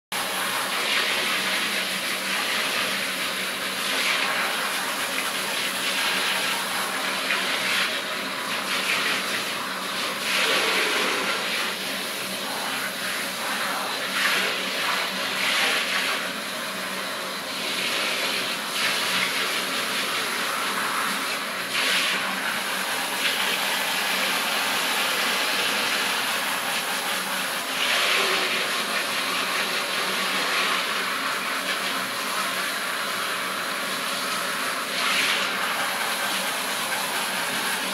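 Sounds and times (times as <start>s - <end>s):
shower spray hissing and splashing: 0.2s - 37.9s.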